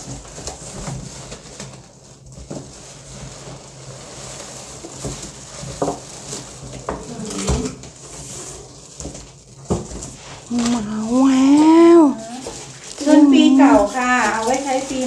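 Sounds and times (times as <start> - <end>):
cardboard scraping: 0.0 - 15.0
plastic wrapping rustling: 0.0 - 15.0.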